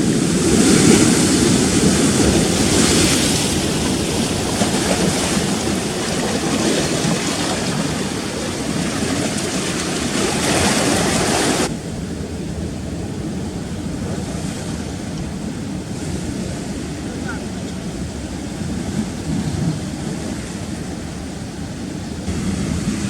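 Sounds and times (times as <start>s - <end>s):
sea surf breaking over rocks: 0.0s - 23.0s
wind buffeting microphone: 0.0s - 23.0s.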